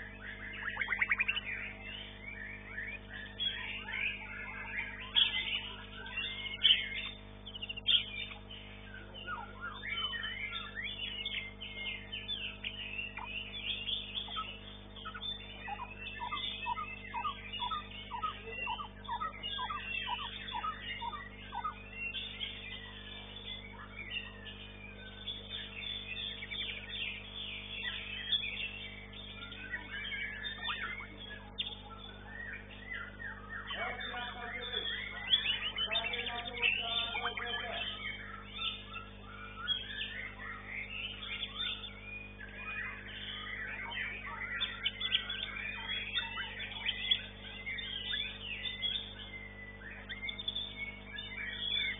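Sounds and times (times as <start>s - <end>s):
songbird whistles and trills: 0.0s - 51.9s
steady electrical hum: 0.0s - 51.9s.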